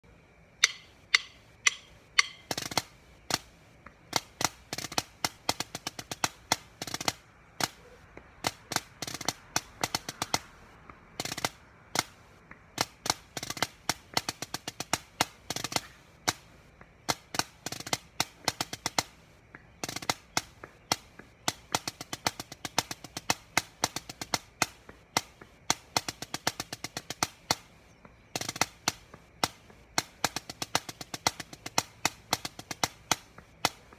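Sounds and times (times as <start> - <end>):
drumsticks on practice pad: 0.1 - 33.9.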